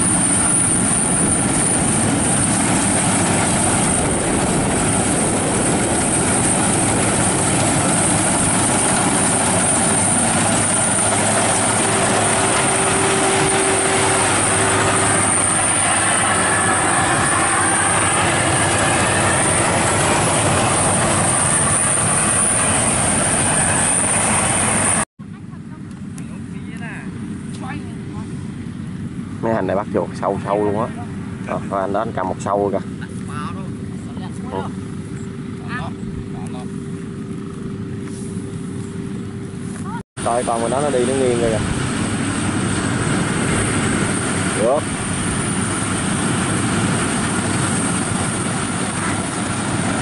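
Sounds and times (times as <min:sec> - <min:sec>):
combine harvester running: 0:00.0 - 0:50.0.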